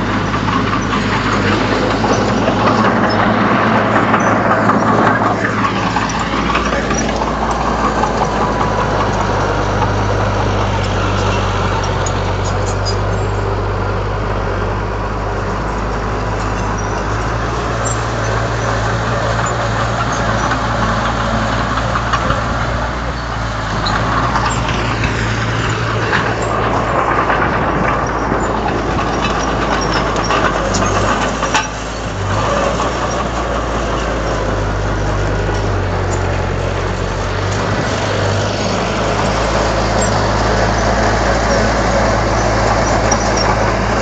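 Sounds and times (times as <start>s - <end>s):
bulldozer diesel engine: 0.0s - 44.0s.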